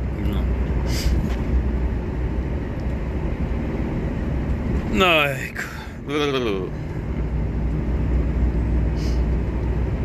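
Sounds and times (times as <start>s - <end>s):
truck engine drone: 0.0s - 10.0s
tyre and road noise: 0.0s - 10.0s.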